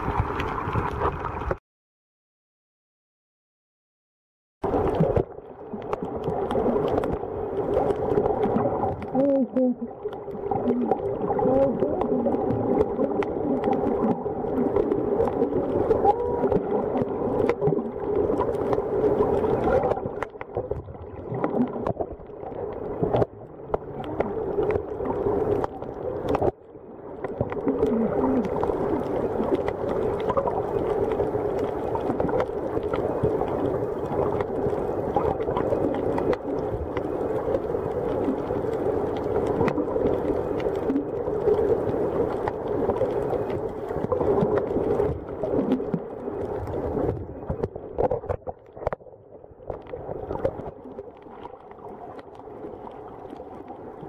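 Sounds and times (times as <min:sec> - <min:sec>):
watery gurgles: 0:00.0 - 0:01.6, 0:04.6 - 0:54.0.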